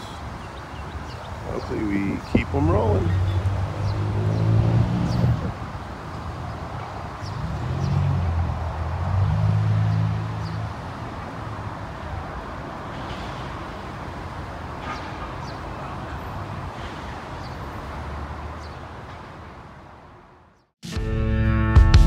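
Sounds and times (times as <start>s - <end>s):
road traffic: 0.0s - 20.8s.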